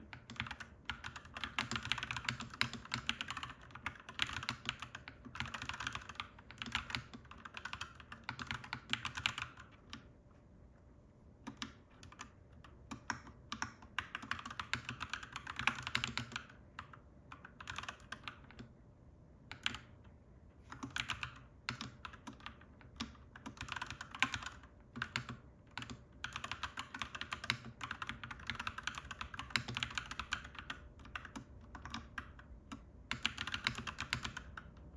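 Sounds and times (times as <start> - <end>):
mechanical keyboard typing: 0.0 - 10.1, 11.4 - 18.8, 19.4 - 34.9.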